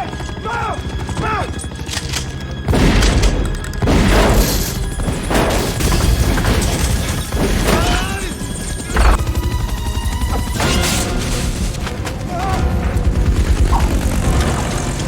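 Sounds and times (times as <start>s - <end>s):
orchestral music score: 0.0s - 15.0s.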